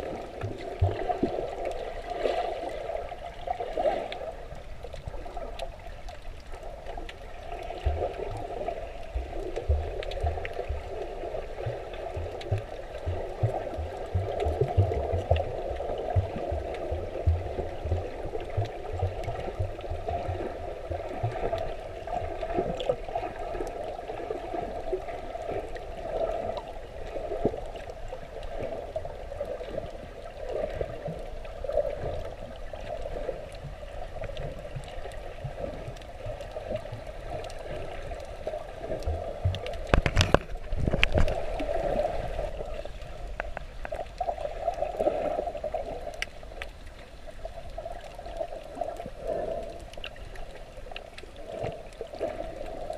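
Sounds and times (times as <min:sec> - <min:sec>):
muffled underwater sloshing: 0:00.0 - 0:52.9.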